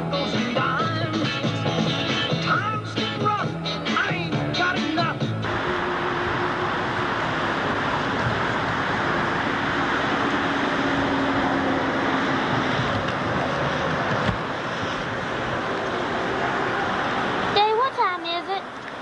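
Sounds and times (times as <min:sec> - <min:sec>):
faint engine hum: 0:00.0 - 0:19.0
traffic rushing: 0:00.0 - 0:19.0.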